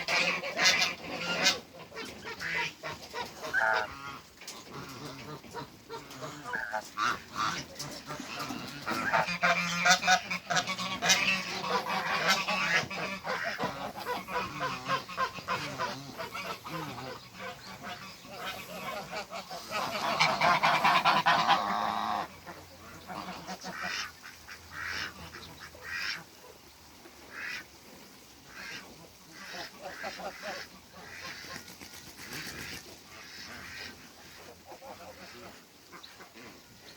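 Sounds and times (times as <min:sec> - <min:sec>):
geese honking: 0:00.0 - 0:26.4, 0:28.5 - 0:36.6.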